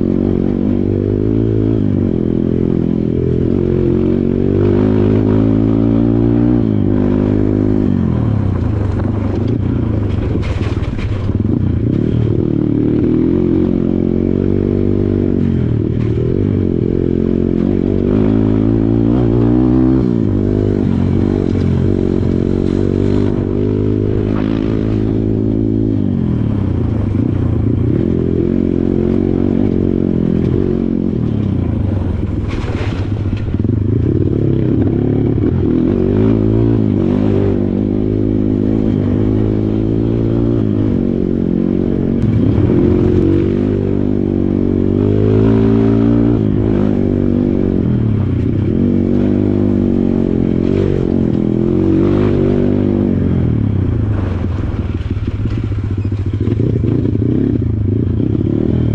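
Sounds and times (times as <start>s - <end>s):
dirt bike engine revving: 0.0s - 9.4s, 10.0s - 58.9s.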